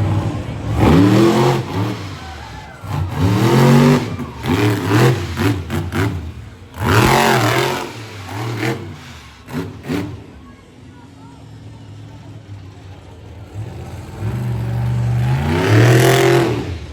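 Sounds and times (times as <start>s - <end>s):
monster truck engine revving: 0.0s - 16.9s.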